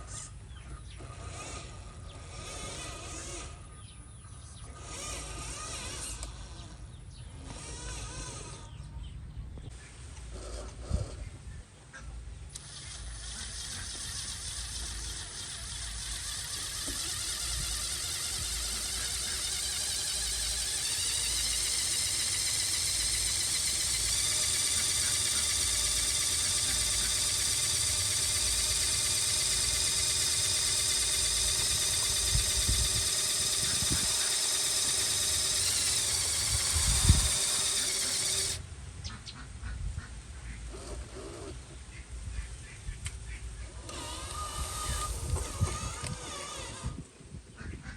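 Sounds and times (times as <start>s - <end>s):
small electric motor whine: 0.0s - 8.9s, 12.4s - 38.7s, 43.7s - 47.3s.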